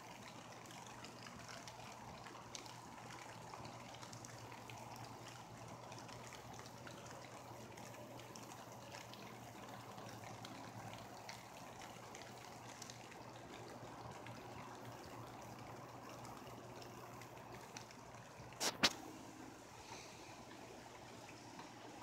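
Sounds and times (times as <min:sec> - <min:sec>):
light rain on leaves: 0:00.0 - 0:22.0.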